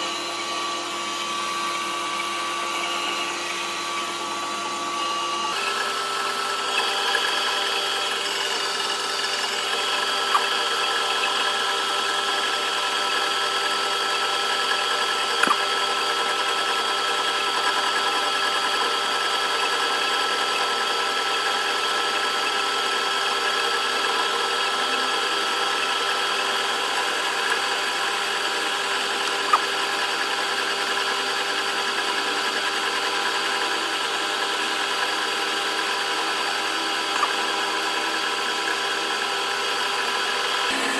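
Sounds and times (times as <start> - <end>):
metalworking machine humming: 0.0 - 40.9.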